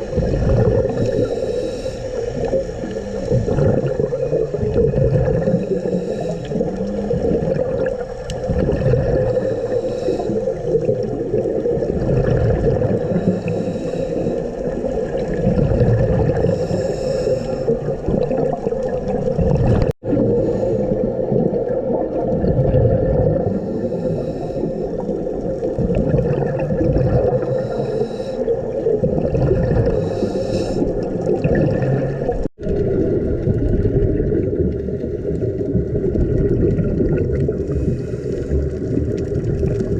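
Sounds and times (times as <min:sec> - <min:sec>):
diver exhaling regulator bubbles: 0:00.0 - 0:39.9
steady underwater hum: 0:00.0 - 0:39.9.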